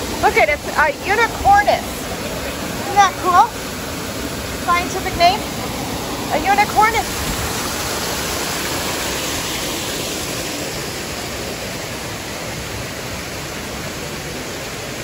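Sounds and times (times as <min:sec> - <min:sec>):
waterfalls pouring into a pool: 0:00.0 - 0:15.0.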